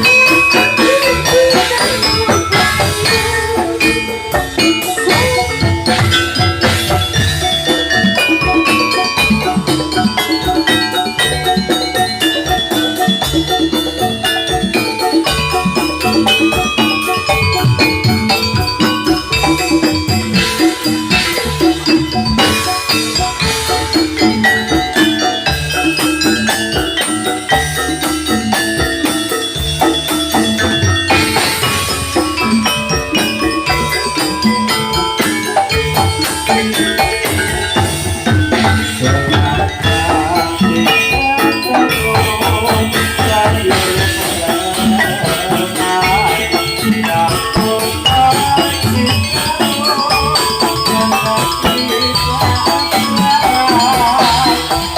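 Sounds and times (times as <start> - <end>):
drums: 0.0 - 54.9
metallophones in interlocking rhythm: 0.0 - 54.9
rattling jingling percussion: 0.0 - 54.9
tuned metal percussion: 0.0 - 54.9.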